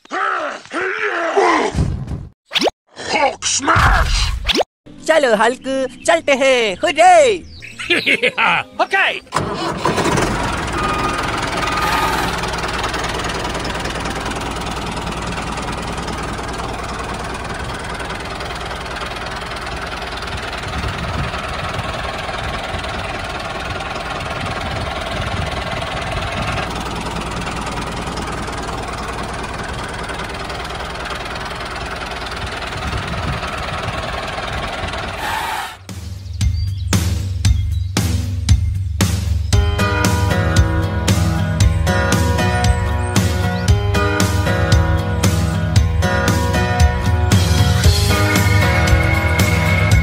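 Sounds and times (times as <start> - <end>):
tractor engine running: 9.3 - 50.0.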